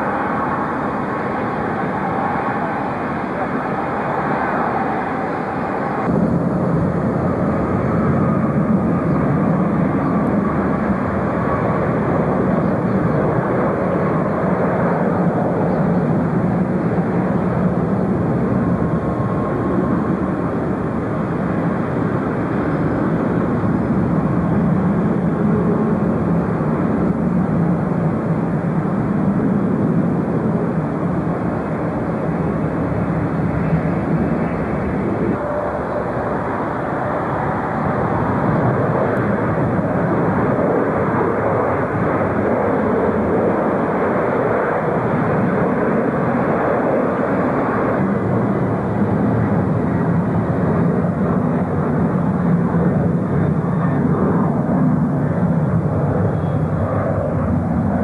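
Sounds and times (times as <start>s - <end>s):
faint whine: 0.0s - 58.0s
jet engines running: 0.0s - 58.0s.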